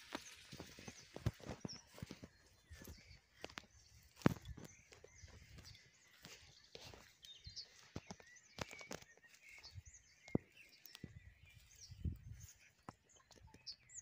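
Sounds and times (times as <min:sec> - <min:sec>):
footsteps on dry grass and reeds: 0:00.0 - 0:13.9
faint bird chirps: 0:00.0 - 0:14.0.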